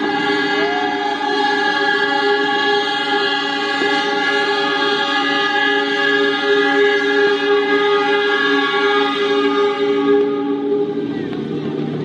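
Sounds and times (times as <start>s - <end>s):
diesel locomotive horns blowing: 0.0s - 11.9s.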